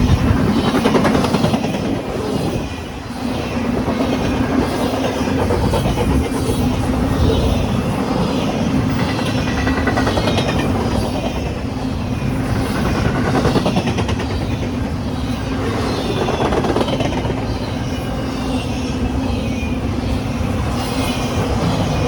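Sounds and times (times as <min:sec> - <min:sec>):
train wheels rumbling on rails: 0:00.0 - 0:22.0
wind buffeting microphone: 0:00.0 - 0:22.0.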